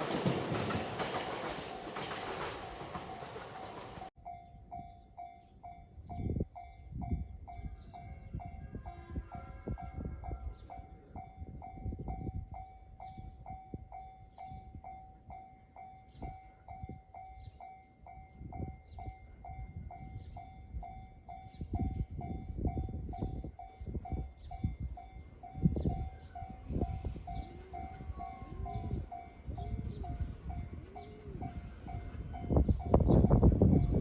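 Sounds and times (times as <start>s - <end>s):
passing train rumbling: 0.0s - 14.1s, 16.6s - 34.0s
level-crossing warning bell: 0.0s - 34.0s.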